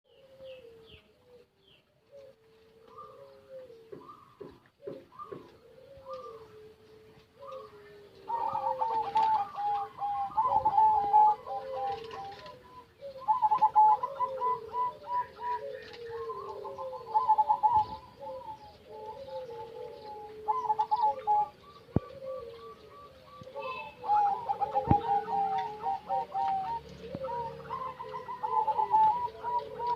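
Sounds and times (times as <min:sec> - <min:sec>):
doves cooing: 0:00.1 - 0:29.9.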